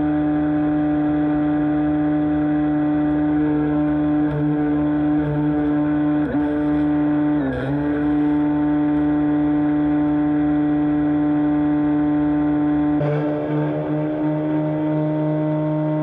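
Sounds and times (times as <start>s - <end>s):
motor whining: 0.0s - 16.0s.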